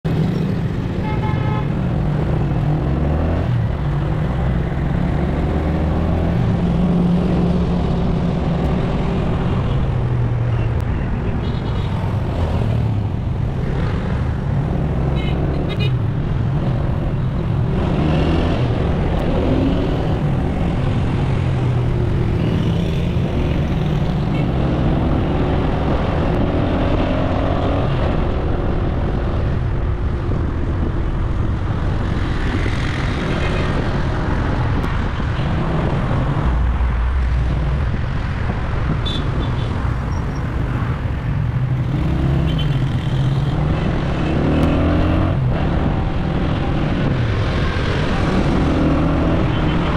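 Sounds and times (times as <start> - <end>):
road traffic: 0.0 - 49.9.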